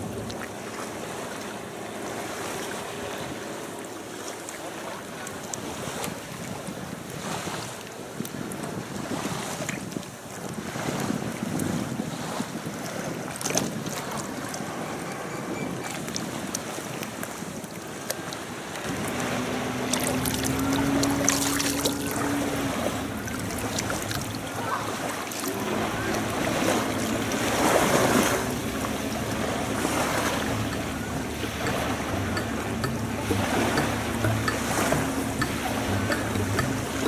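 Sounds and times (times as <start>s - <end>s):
low engine hum: 0.0s - 7.2s, 12.8s - 37.0s
waves washing on shore: 0.0s - 37.0s
wind buffeting microphone: 5.2s - 37.0s.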